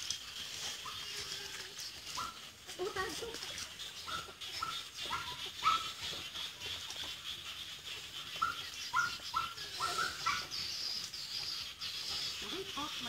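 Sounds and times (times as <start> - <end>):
small animal high calls: 0.3 - 13.0.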